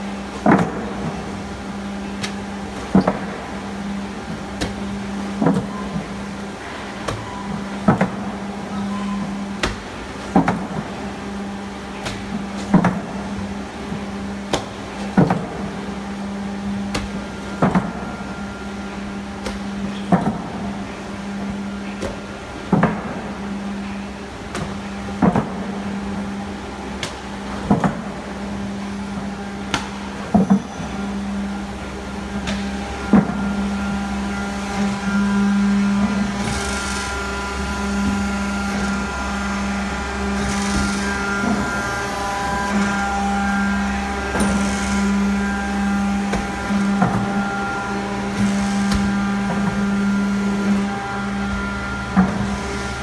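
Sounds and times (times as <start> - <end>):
motor hum: 0.0 - 53.0.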